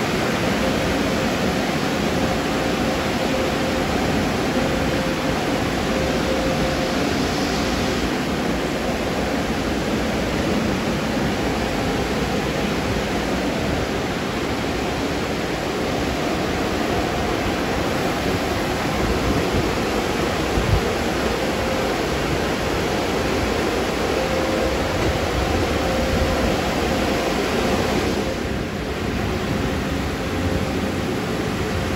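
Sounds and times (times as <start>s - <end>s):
spraying water and machinery: 0.0s - 31.9s.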